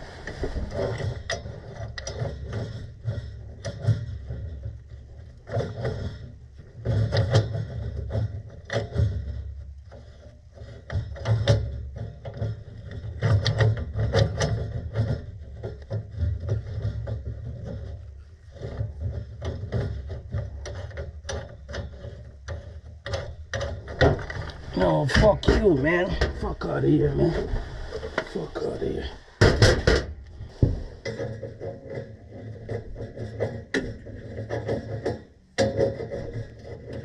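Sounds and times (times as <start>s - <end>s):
metal pipe fittings clicking and scraping: 0.7s - 26.8s, 30.2s - 37.0s.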